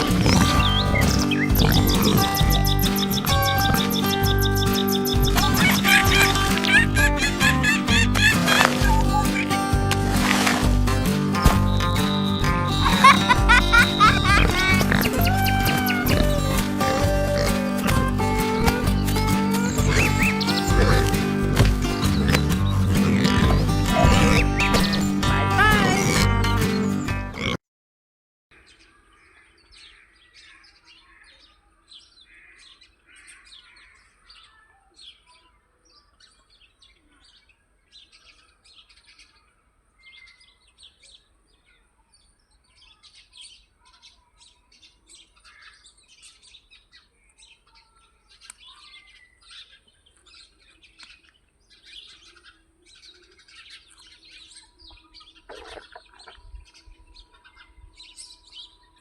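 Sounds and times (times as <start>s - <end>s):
birds chirping: 0.0s - 27.6s, 28.5s - 59.0s.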